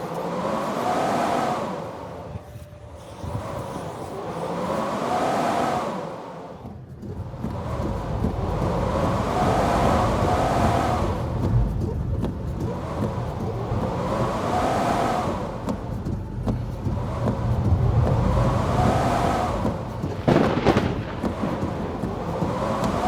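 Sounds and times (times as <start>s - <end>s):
whistling wind gusts: 0.0s - 23.0s.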